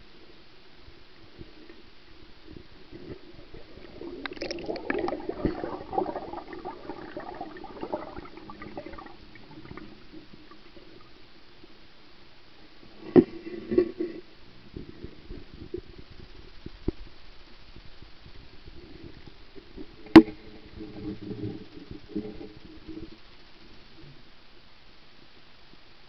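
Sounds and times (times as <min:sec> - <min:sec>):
underwater sloshing and gurgling: 0:00.3 - 0:12.0, 0:12.7 - 0:24.4.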